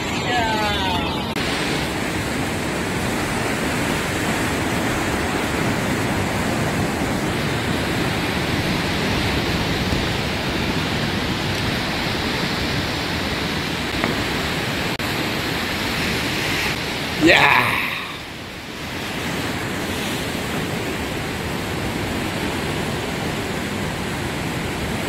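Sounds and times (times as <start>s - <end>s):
ocean waves and surf: 0.0s - 25.0s.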